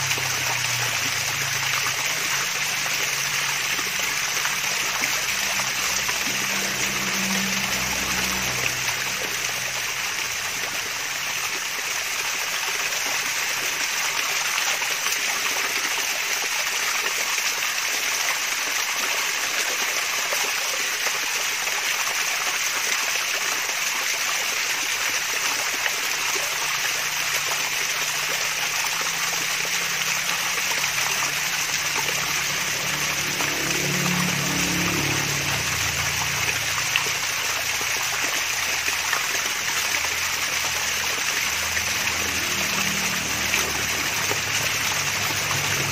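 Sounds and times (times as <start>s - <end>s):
water pouring and trickling: 0.0s - 45.9s.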